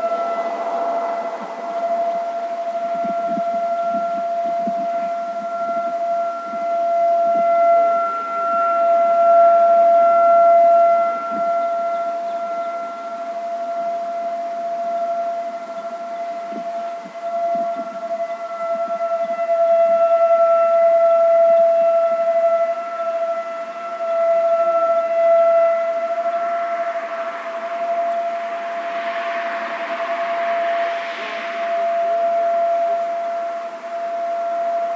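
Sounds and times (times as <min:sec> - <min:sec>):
rotating electronic siren tone: 0:00.0 - 0:34.9.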